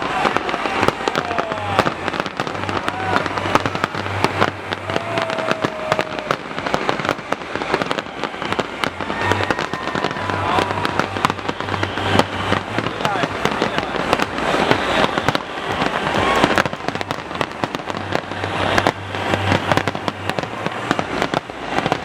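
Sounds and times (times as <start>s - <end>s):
crowd voices calling out: 0.0s - 22.0s
fireworks bangs and crackles: 0.0s - 22.0s.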